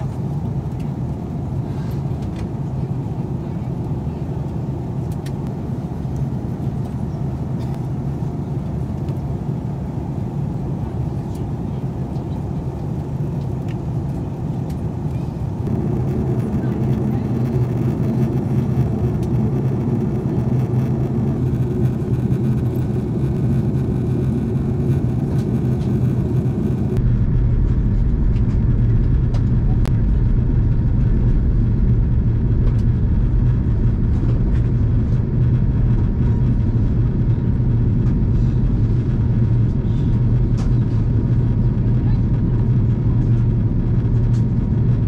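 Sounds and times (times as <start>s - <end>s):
airplane cabin hum: 0.0s - 45.0s.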